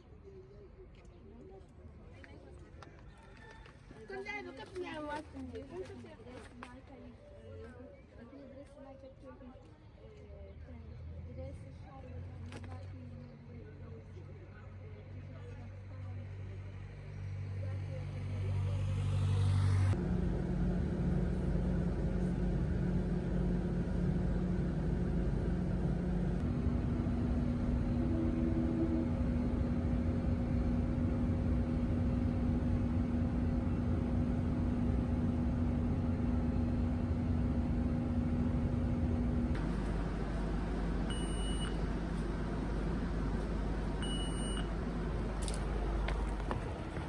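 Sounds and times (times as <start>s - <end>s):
vehicle engine rumbling: 4.2s - 47.0s.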